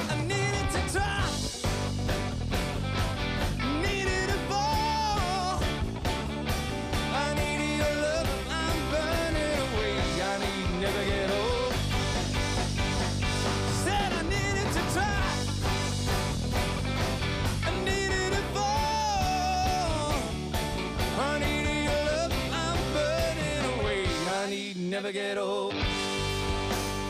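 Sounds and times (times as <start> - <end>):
rock band playing live: 0.0 - 27.0.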